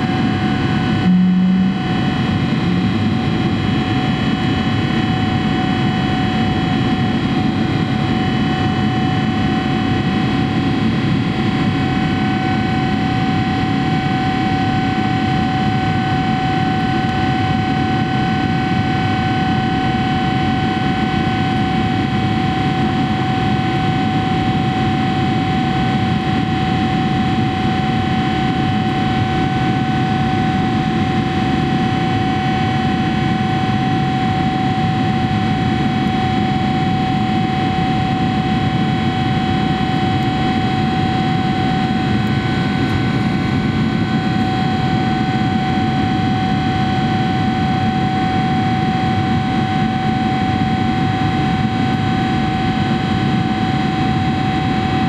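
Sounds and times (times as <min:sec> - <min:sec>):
airplane cabin engine and air rush: 0:00.0 - 0:55.0
high engine whine: 0:00.0 - 0:55.0.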